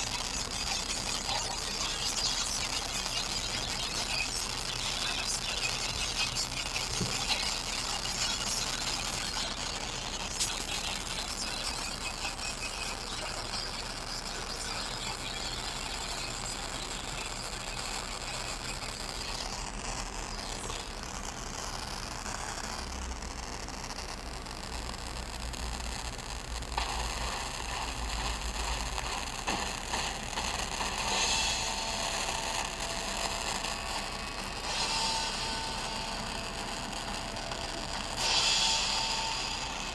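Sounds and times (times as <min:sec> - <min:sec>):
radio static noise: 0:00.0 - 0:39.9.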